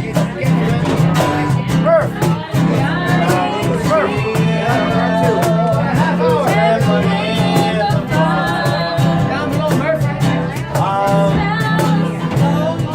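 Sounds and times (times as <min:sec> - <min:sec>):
guitar strumming: 0:00.0 - 0:12.9
person singing: 0:00.0 - 0:12.9.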